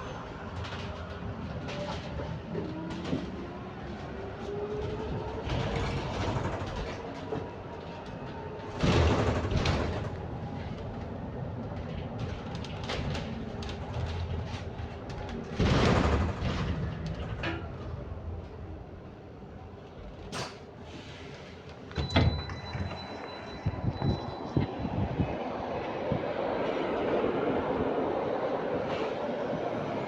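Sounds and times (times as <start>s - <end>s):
bus running and road noise: 0.0s - 30.0s.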